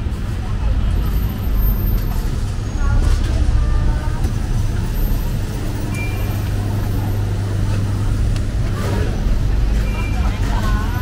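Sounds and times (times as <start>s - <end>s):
heavy vehicle engine idling: 0.0s - 11.0s
road traffic noise: 0.0s - 11.0s.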